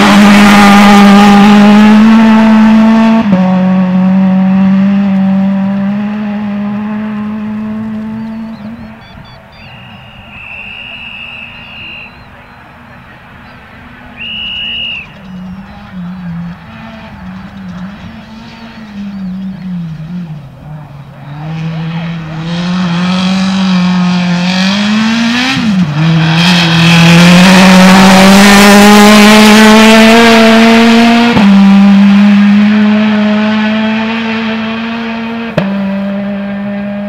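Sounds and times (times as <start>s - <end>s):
rally car engine passing: 0.0s - 37.0s.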